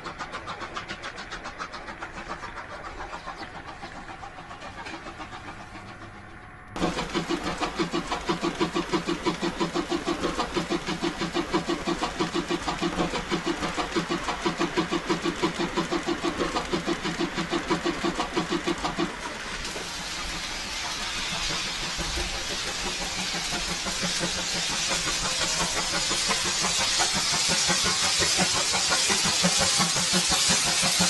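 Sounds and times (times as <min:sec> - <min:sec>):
steam hiss: 0:00.0 - 0:06.2, 0:06.8 - 0:31.0
steam locomotive chuffing: 0:00.0 - 0:31.0.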